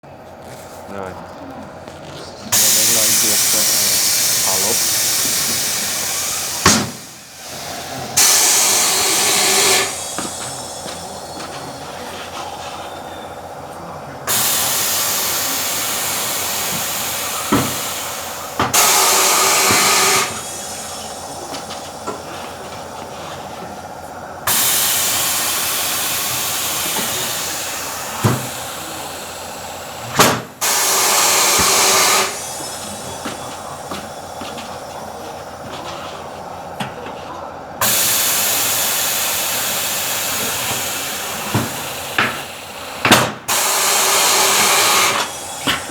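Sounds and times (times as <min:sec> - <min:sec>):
steady machine hum: 0:00.0 - 0:45.9
compressed air hissing: 0:02.4 - 0:36.6, 0:37.8 - 0:45.9.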